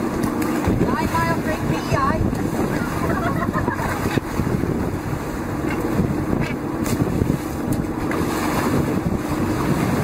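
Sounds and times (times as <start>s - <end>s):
sea water churning and splashing: 0.0s - 10.0s
wind on microphone: 0.0s - 10.0s.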